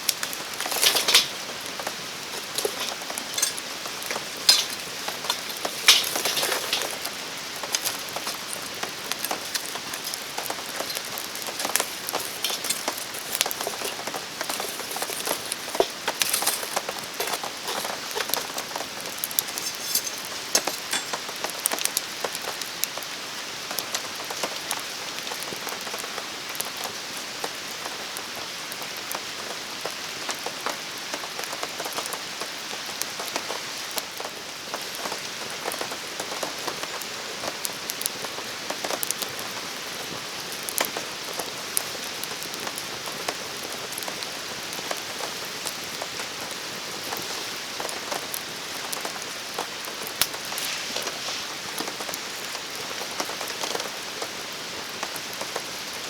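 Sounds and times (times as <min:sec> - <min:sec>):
raindrops tapping surfaces: 0:00.0 - 0:56.0
steady rain falling: 0:00.0 - 0:56.0.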